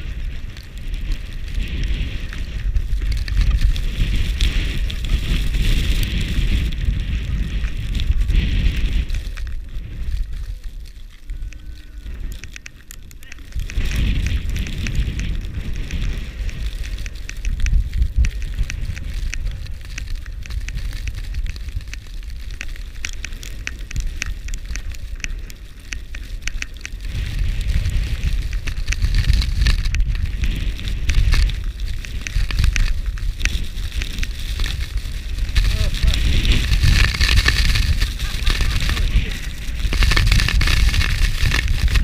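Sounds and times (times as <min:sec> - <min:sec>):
crackling of wind-blown snow: 0:00.0 - 0:42.0
storm wind buffeting microphone: 0:00.0 - 0:42.0.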